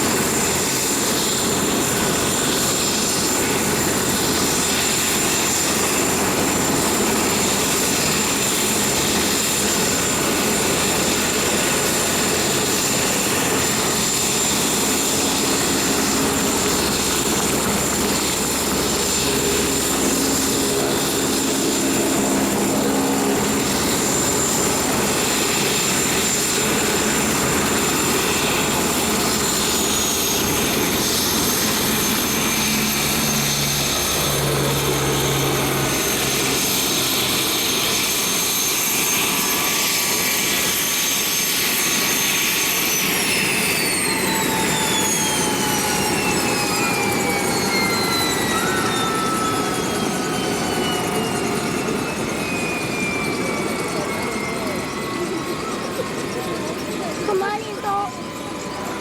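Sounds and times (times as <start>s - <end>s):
helicopter rotor and engine noise: 0.0s - 59.0s
helicopter turbine whine: 0.0s - 59.0s.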